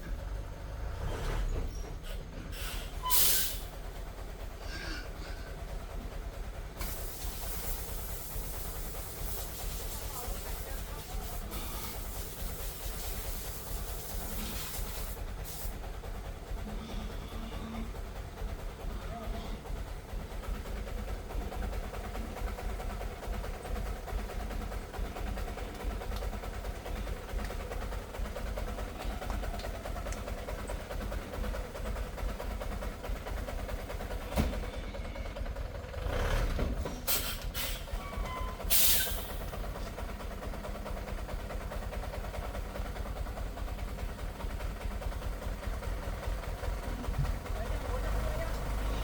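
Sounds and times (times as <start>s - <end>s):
vehicle engine rumbling: 0.0s - 49.0s.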